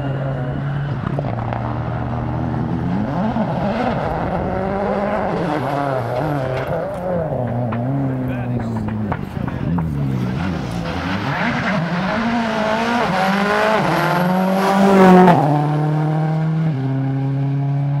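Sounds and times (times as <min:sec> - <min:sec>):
rally car engine passing by: 0:00.0 - 0:18.0.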